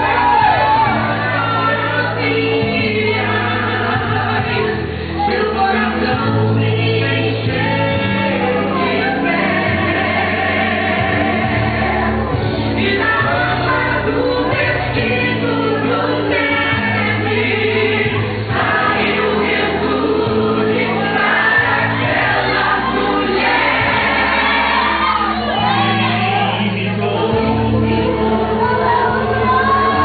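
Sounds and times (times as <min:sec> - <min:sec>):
gospel choir singing: 0:00.0 - 0:30.0
instrumental backing: 0:00.0 - 0:30.0.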